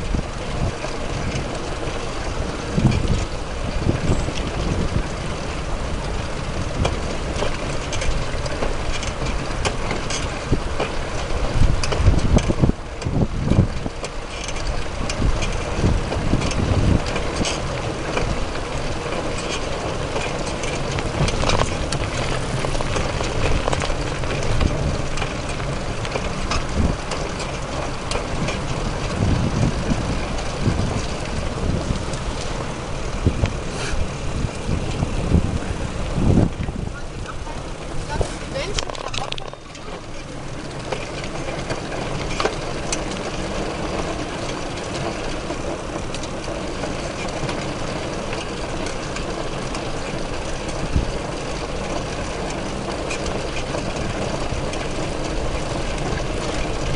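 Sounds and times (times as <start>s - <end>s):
small knocks and rattles: 0.0s - 33.7s, 38.6s - 56.9s
tyre and road noise: 0.0s - 56.9s
wind noise on microphone: 0.0s - 56.9s.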